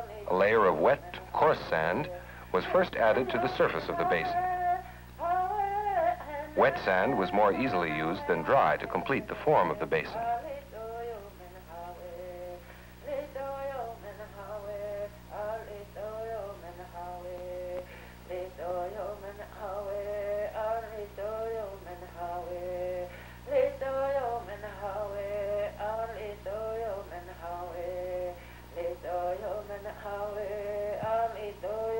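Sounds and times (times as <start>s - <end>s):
person singing: 0.0s - 31.9s
steady low hum: 0.0s - 31.9s.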